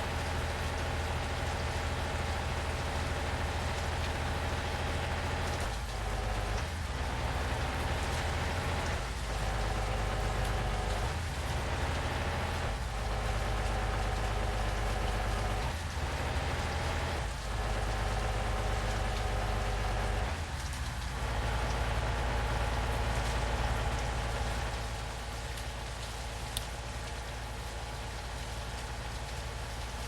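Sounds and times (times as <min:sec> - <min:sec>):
constant rushing noise: 0:00.0 - 0:30.0
truck engine running: 0:00.0 - 0:30.0.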